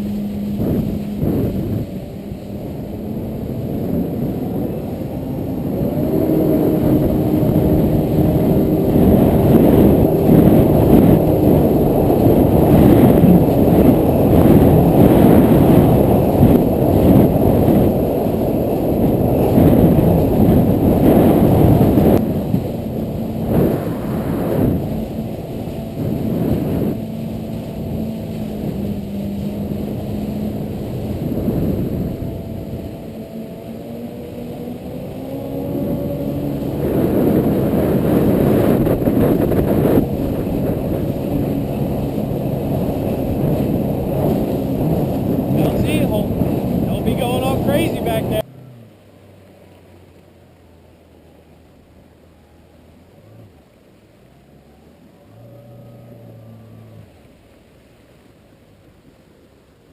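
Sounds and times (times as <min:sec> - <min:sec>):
jet ski engine: 0:00.0 - 0:59.9.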